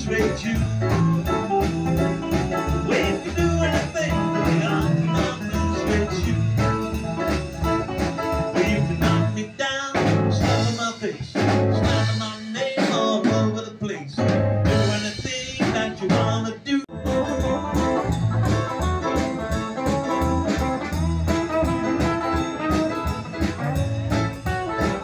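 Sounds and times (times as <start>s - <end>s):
live band playing: 0.0s - 25.0s.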